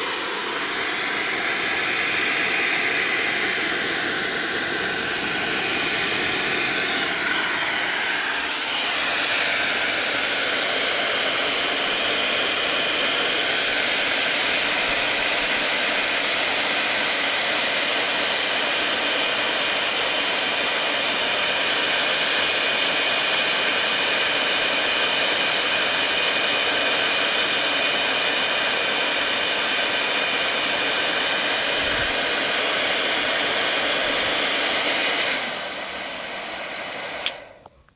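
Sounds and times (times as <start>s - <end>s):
hair dryer blowing with whine: 0.0s - 37.9s.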